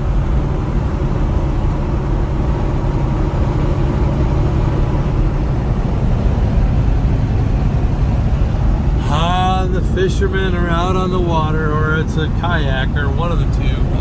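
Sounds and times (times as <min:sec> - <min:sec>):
engine drone: 0:00.0 - 0:14.0
road noise: 0:00.0 - 0:14.0.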